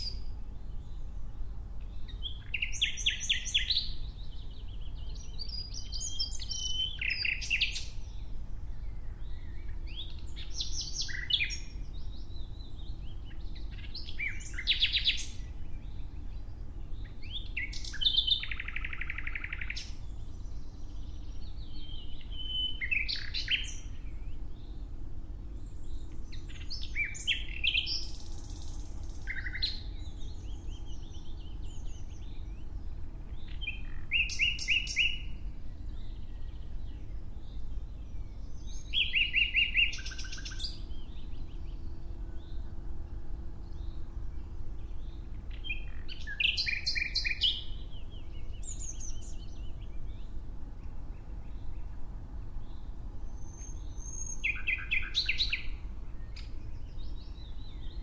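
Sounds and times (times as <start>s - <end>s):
nightingale singing: 0.0s - 24.9s, 25.5s - 42.8s, 43.6s - 58.0s
faint low rumble: 0.0s - 58.0s.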